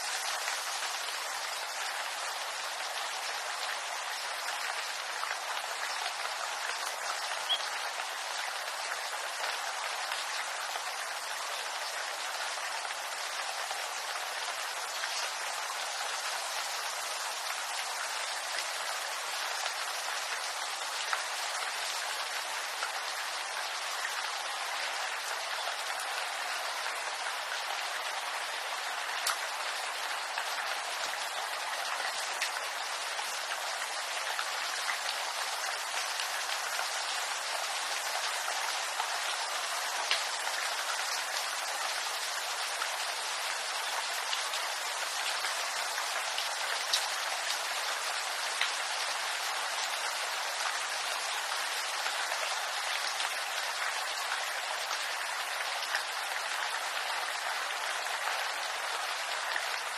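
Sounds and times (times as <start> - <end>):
rain on bamboo leaves: 0.0 - 59.9.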